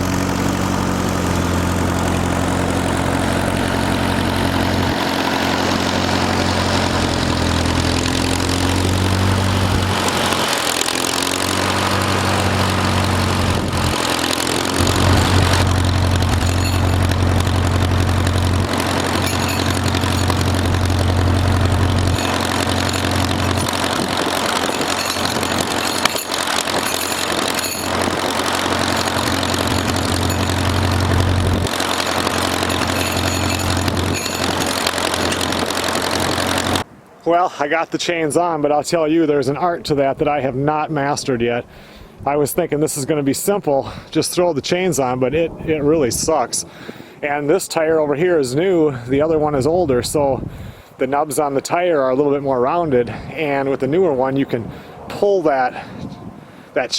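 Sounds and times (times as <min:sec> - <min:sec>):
tractor engine running: 0:00.0 - 0:55.8.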